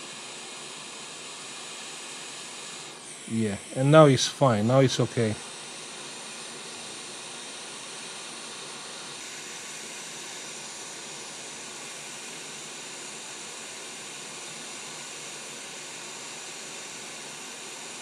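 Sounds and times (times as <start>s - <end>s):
hot air nozzle hissing: 0.0s - 18.0s.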